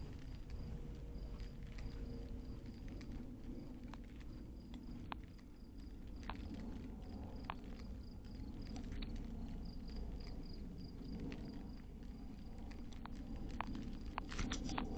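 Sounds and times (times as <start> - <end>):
insects chirping: 0.0 - 14.9
low background rumble: 0.0 - 14.9.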